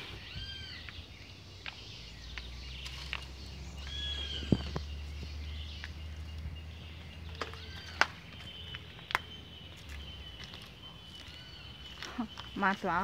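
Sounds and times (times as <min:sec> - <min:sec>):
birds whistling: 0:00.0 - 0:13.0.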